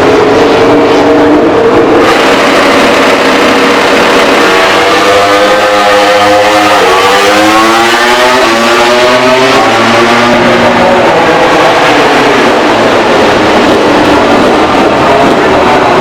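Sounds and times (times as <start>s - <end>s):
racing motorcycle accelerating: 0.0s - 16.0s.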